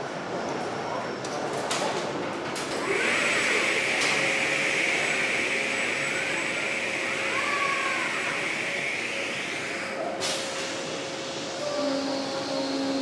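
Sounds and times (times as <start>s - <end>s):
faint machinery hum: 0.0s - 13.0s.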